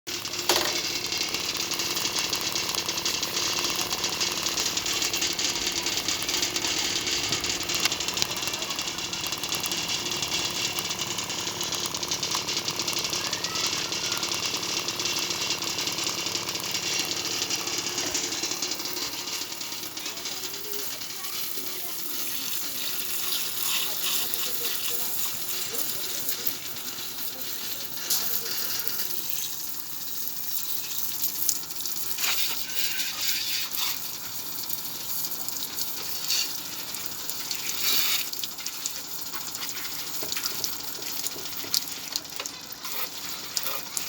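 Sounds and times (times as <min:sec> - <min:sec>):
water pump humming: 0:00.1 - 0:44.0.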